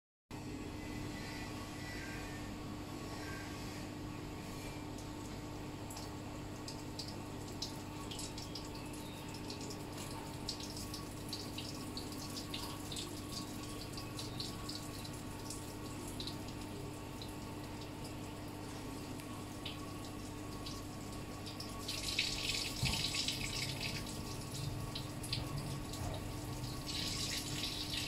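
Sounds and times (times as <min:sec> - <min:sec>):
steady low hum: 0:00.3 - 0:28.0
water trickling into pond: 0:04.9 - 0:28.0.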